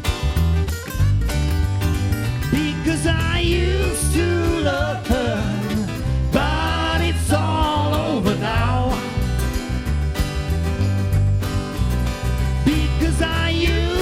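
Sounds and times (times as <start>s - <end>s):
bass: 0.0s - 14.0s
drums: 0.0s - 14.0s.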